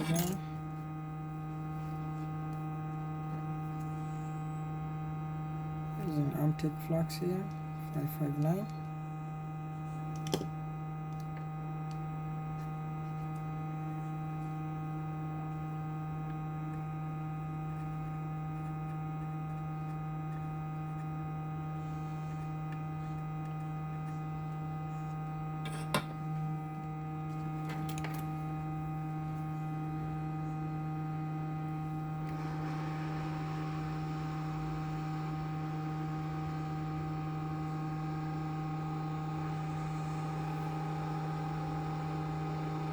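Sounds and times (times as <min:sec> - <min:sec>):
electrical mains hum: 0:00.0 - 0:42.9.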